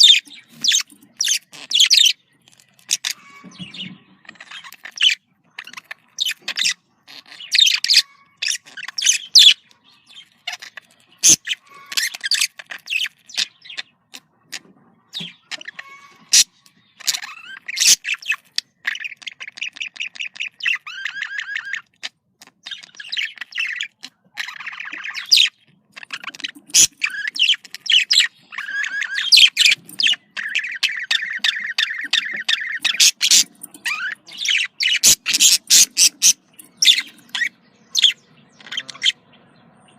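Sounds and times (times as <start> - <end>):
budgerigars chattering and trilling: 0.0 - 39.9.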